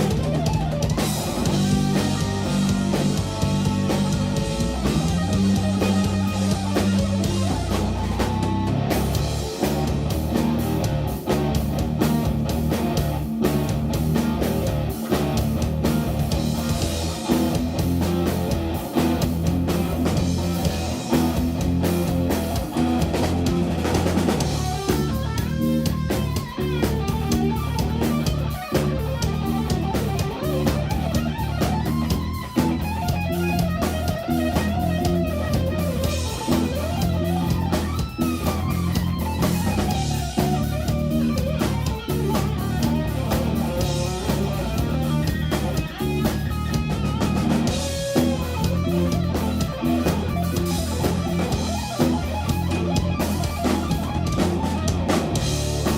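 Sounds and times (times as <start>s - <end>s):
bass line: 0.0s - 55.9s
drum kit: 0.0s - 55.9s
electric guitar lead with bends: 0.0s - 55.9s.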